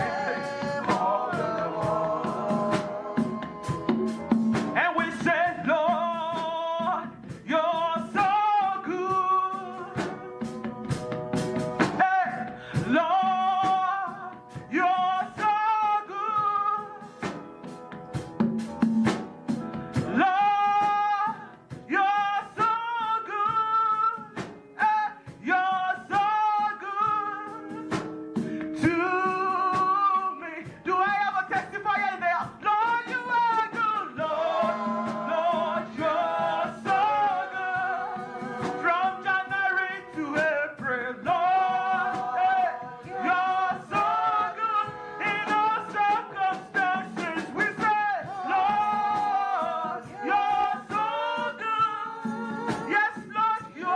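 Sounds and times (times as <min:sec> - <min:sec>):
person singing with vibrato: 0:00.0 - 0:18.0, 0:19.9 - 0:53.9
live band accompaniment: 0:00.0 - 0:53.9
percussion beats: 0:00.0 - 0:53.9.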